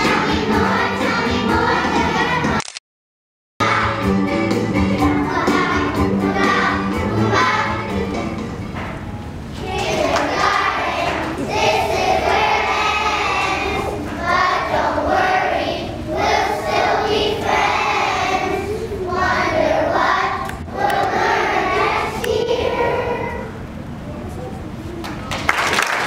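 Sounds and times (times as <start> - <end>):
children's choir singing: 0.0 - 2.6, 3.6 - 8.7, 9.5 - 23.7.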